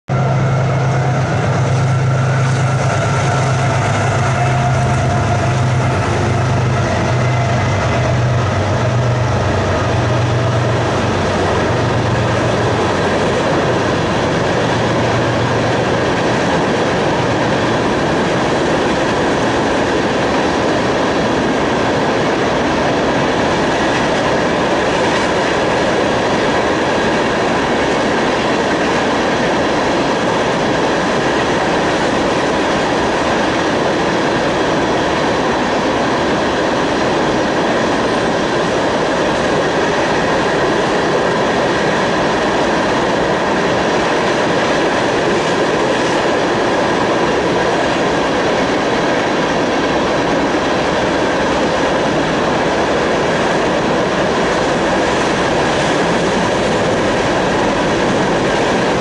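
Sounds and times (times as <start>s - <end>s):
freight train wheels on rail: 0.1s - 59.0s
locomotive engine hum: 0.1s - 59.0s.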